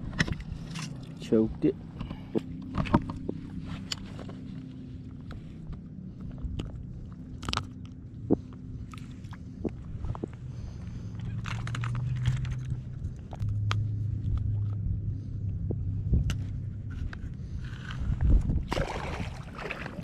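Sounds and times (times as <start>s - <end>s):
low motor drone: 0.0s - 20.0s.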